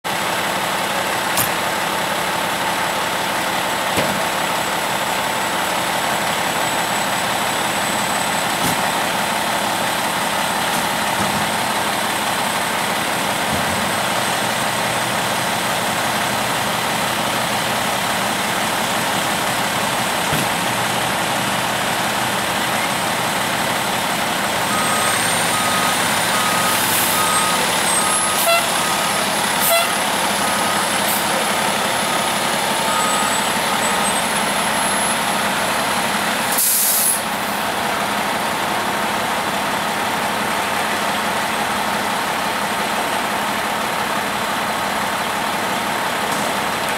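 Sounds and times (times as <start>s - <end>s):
diesel engine idling: 0.1s - 46.9s.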